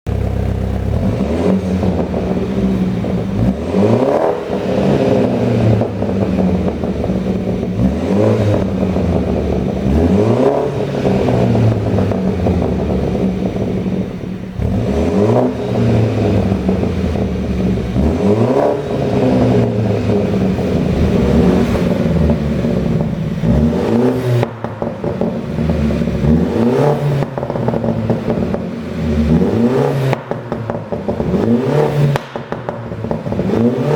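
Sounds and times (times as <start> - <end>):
car engine revving: 0.0 - 33.9
exhaust popping and crackling: 0.0 - 33.9.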